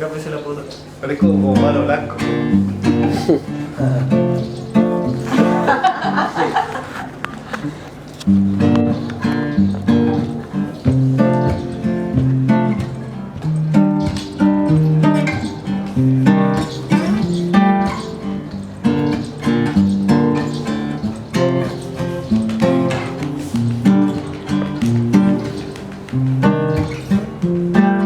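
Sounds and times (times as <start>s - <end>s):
acoustic guitar playing: 1.1s - 28.0s.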